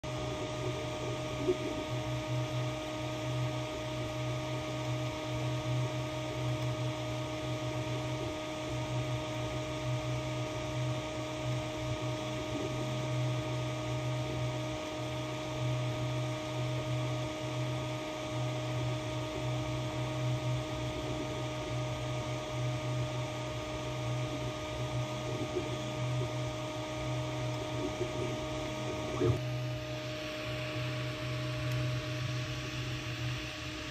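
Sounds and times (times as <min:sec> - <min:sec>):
cooling fans humming: 0:00.0 - 0:33.9
low motor drone pulsing: 0:00.0 - 0:33.9.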